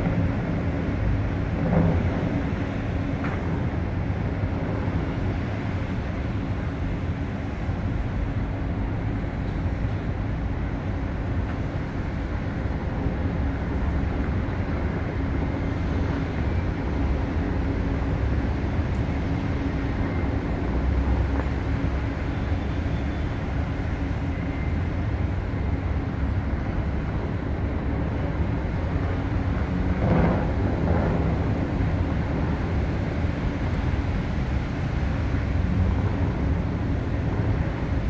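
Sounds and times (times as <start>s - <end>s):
distant city traffic rumble: 0.0s - 38.0s.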